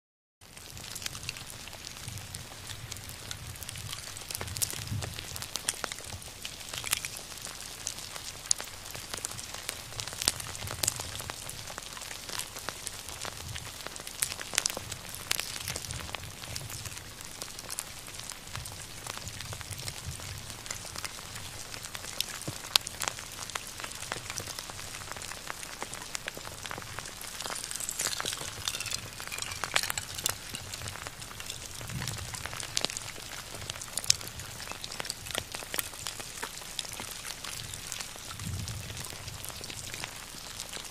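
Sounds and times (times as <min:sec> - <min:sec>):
fire crackling and popping: 0:00.4 - 0:40.9.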